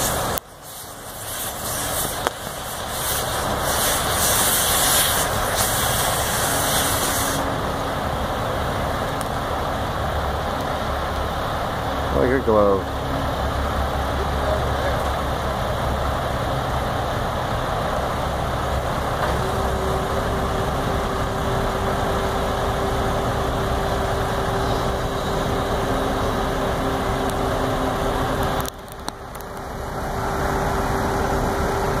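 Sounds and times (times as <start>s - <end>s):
crane engine running: 0.0s - 32.0s
steady whine: 0.0s - 32.0s.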